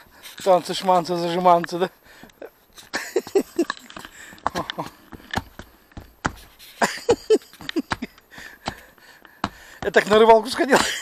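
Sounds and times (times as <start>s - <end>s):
footsteps on wooden planks: 0.0s - 11.0s.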